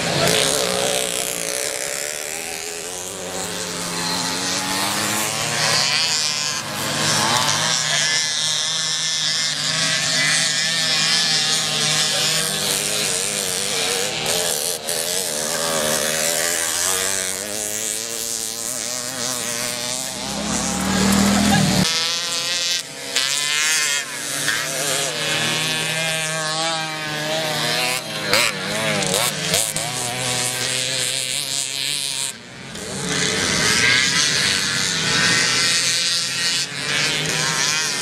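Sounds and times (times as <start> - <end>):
moped engines buzzing and revving: 0.0 - 38.0.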